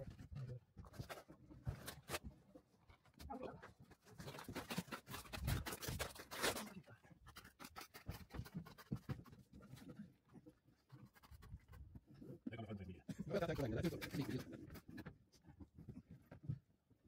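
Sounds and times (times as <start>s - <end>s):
objects scraping and rustling: 0.0s - 12.5s, 13.1s - 16.6s.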